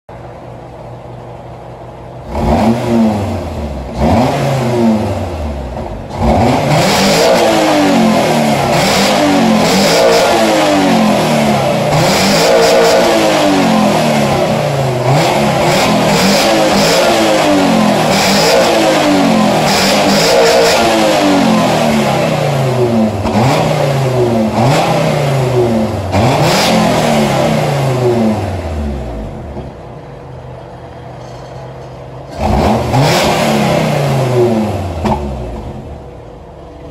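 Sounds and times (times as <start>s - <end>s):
car engine revving: 2.1s - 30.4s, 32.3s - 36.9s.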